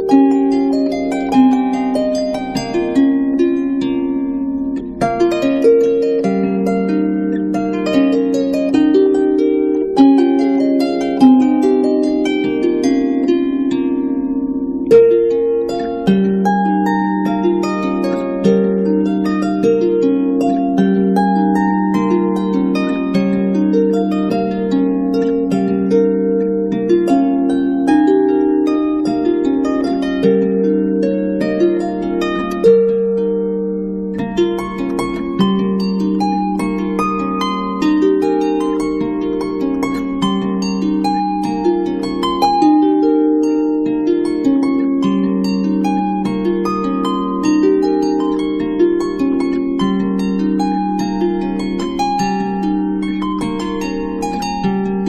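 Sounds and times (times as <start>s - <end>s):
harp playing slow melody: 0.0s - 55.0s
plucked instrumental music: 0.0s - 55.0s.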